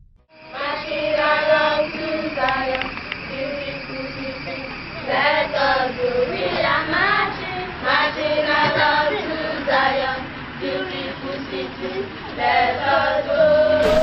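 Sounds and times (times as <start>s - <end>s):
young voices singing together: 0.4s - 14.0s.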